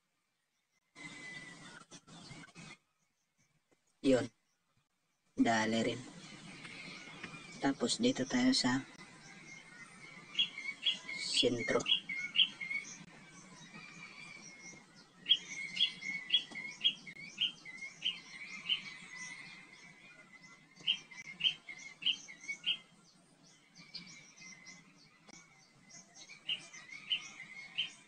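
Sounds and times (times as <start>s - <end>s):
bird chirping: 0.0s - 28.0s
faint high twittering: 0.4s - 28.0s.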